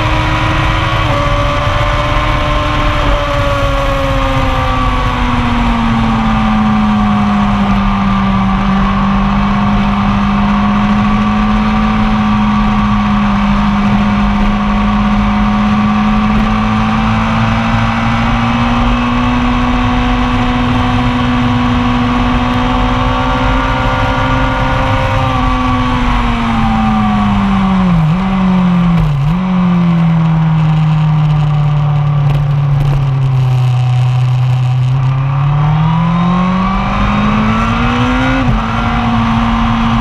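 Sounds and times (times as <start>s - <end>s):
wind rush: 0.0s - 33.5s, 34.8s - 40.0s
motorcycle engine at high revs: 0.0s - 40.0s.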